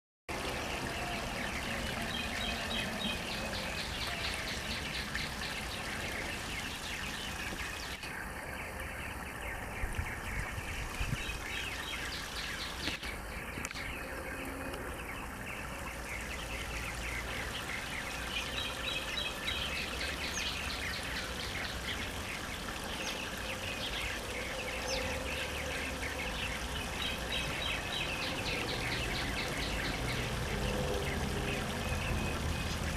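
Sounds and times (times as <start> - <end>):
songbirds singing: 0.3 - 32.9
water trickling over rocks: 0.3 - 32.9.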